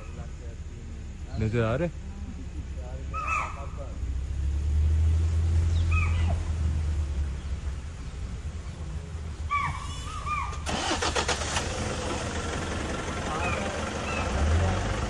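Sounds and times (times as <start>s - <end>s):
engine idling low rumble: 0.0s - 15.0s.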